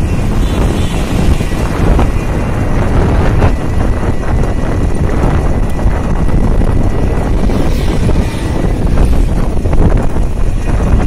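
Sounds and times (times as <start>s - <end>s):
road and traffic noise: 0.0s - 11.0s
wind buffeting microphone: 0.0s - 11.0s.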